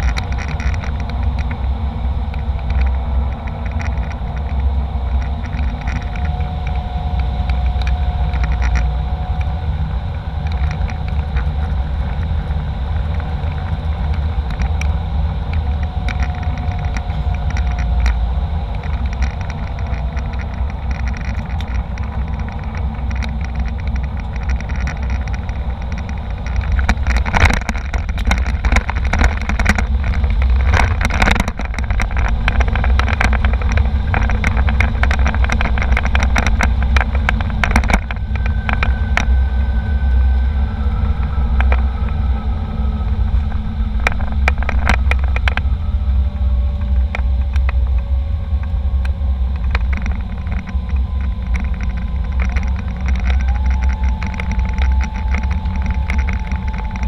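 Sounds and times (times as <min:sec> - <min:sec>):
faint wavering tone: 0:00.0 - 0:57.0
jet engine rumble in cabin: 0:00.0 - 0:57.0
sharp clicks and rattles: 0:00.0 - 0:57.0.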